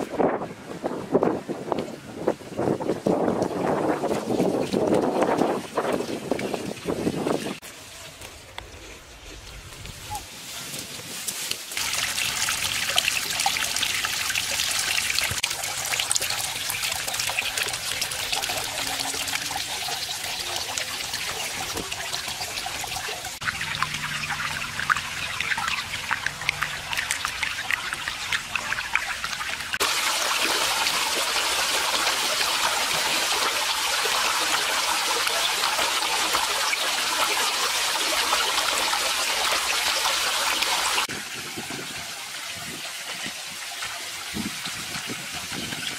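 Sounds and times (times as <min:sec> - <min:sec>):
waterfall splashing into pond: 0:02.4 - 0:07.7, 0:11.4 - 0:45.9.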